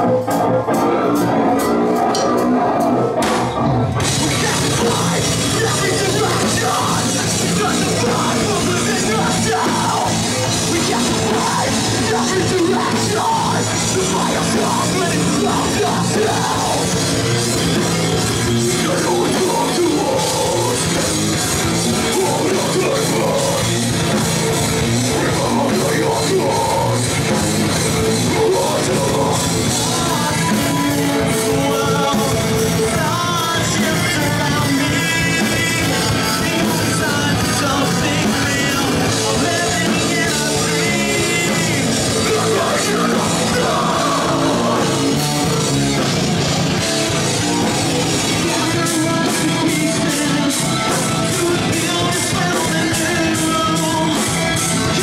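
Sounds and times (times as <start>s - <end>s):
heavy rock band playing live: 0.0s - 55.0s.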